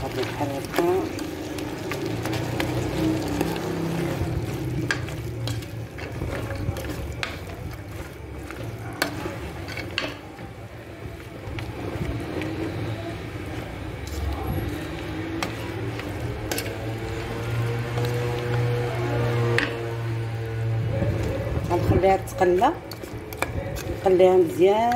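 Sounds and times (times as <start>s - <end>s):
spoon stirring beans in pot: 0.0s - 24.9s.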